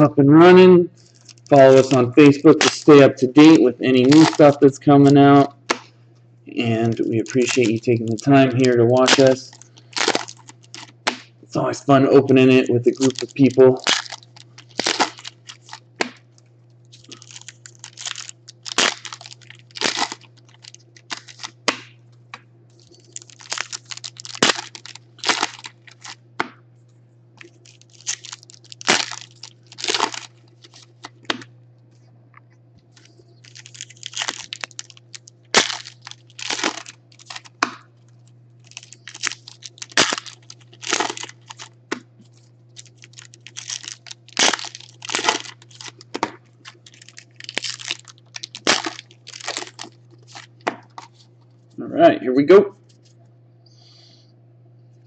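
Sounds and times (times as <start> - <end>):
steady low hum: 0.0 - 55.0
foil card packs tearing: 1.0 - 5.9, 6.6 - 16.2, 16.9 - 21.9, 22.7 - 26.2, 27.4 - 31.5, 32.9 - 37.8, 38.6 - 51.4
wrappers crinkling: 1.0 - 5.9, 6.6 - 22.0, 22.7 - 26.2, 27.4 - 31.5, 32.9 - 51.8.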